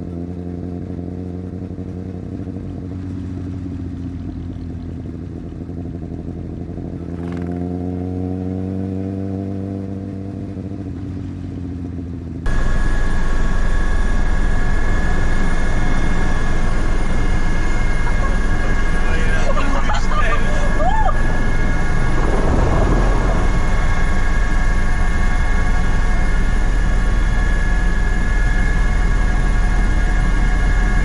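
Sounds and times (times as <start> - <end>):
motorcycle engine cruising: 0.0 - 31.0
rough vehicle noise with whine: 0.0 - 31.0.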